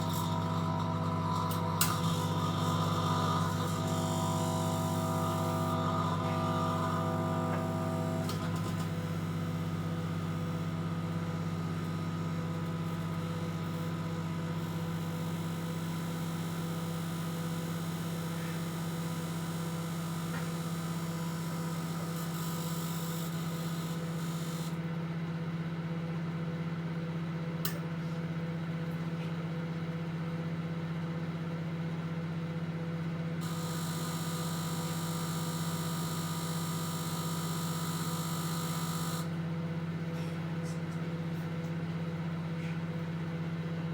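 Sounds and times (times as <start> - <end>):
microwave oven humming: 0.0 - 43.9.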